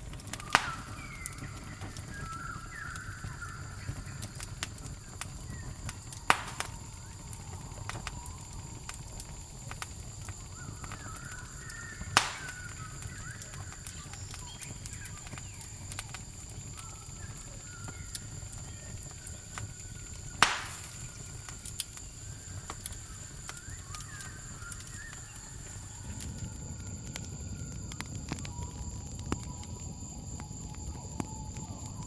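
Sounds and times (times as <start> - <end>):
sharp loud pops from fire: 0.0 - 26.3
campfire crackling: 0.0 - 32.0
cricket trill: 0.0 - 32.0.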